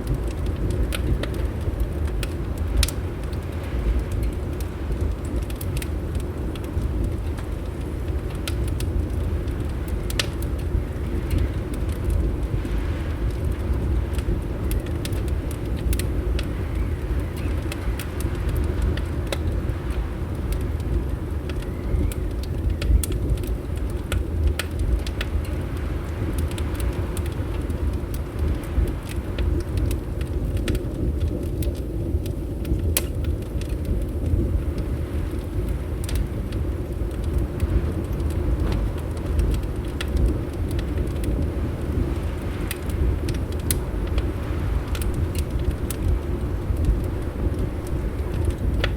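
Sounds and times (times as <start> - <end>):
low wind rumble: 0.0 - 48.9
wood fire crackling and popping: 0.0 - 48.9.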